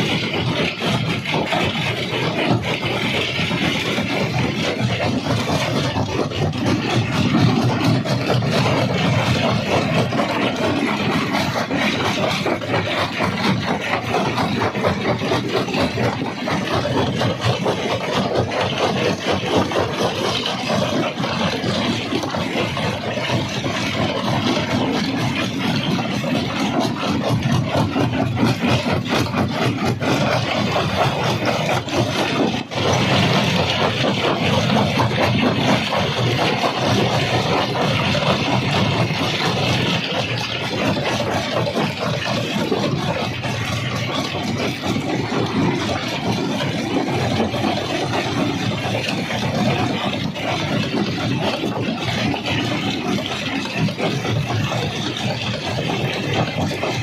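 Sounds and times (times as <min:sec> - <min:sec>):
heavy machine drone: 0:00.0 - 0:57.0.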